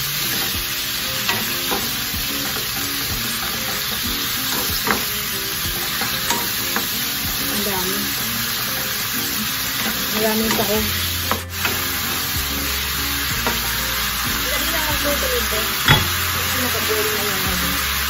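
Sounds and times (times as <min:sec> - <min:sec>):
squid sizzling in a pan: 0:00.0 - 0:18.0.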